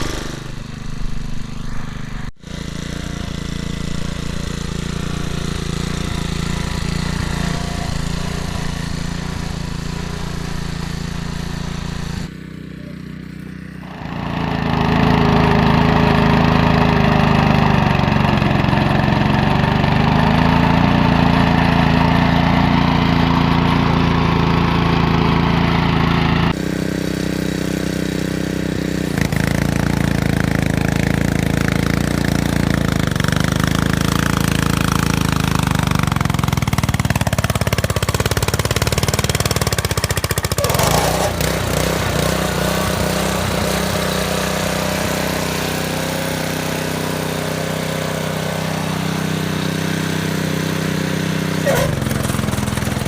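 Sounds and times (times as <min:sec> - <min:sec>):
garden tiller engine running: 0:00.0 - 0:53.0.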